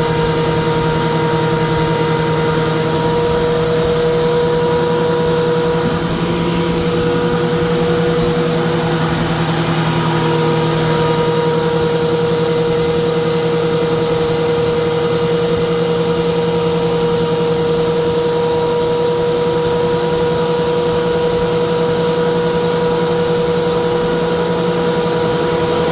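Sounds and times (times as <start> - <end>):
wood planer motor humming: 0.0 - 25.9.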